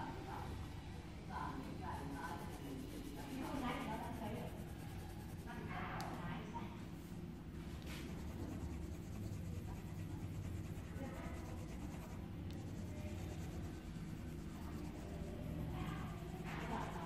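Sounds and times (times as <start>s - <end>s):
steady low hum: 0.0s - 17.0s
pencil scratching on paper: 1.3s - 6.3s, 7.6s - 17.0s.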